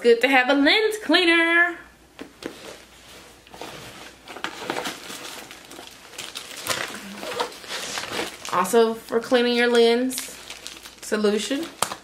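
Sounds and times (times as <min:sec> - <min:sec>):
fabric and plastic rustling: 0:02.2 - 0:12.0.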